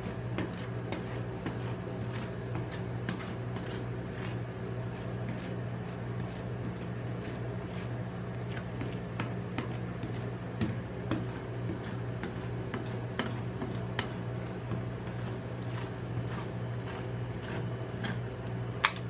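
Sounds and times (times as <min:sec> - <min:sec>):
refrigeration unit hum: 0:00.0 - 0:19.0.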